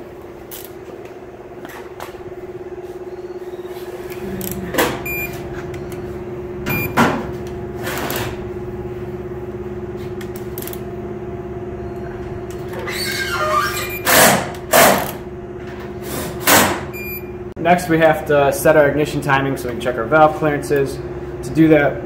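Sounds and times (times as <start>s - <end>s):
steady low hum: 0.0s - 12.7s, 13.8s - 22.0s.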